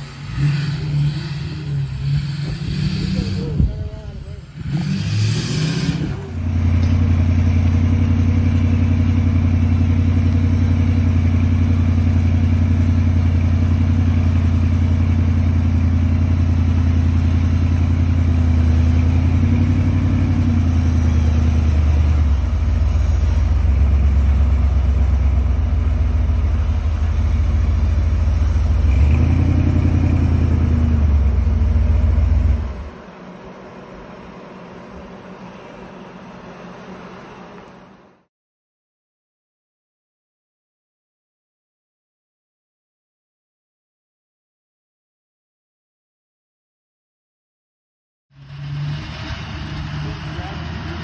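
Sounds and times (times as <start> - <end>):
truck engine running: 0.0 - 38.3, 48.4 - 51.0.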